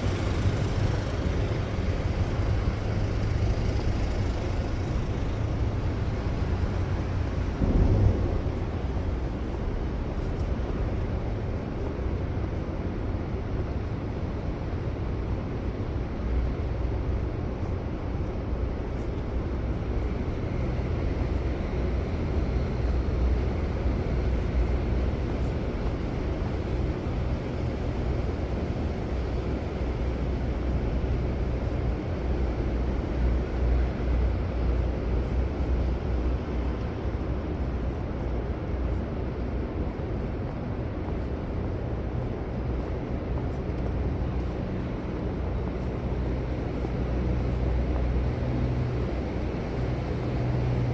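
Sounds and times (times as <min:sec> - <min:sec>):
city street traffic rumble: 0:00.0 - 0:50.9.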